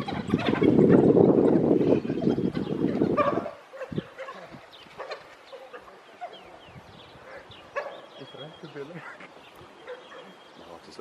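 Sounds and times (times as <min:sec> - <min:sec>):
wild dogs twittering: 0:00.0 - 0:11.0.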